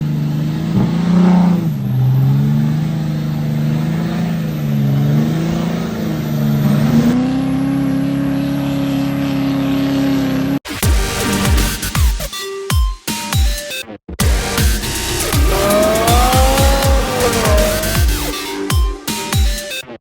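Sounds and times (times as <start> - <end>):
truck engine revving: 0.0 - 11.8, 14.2 - 19.8.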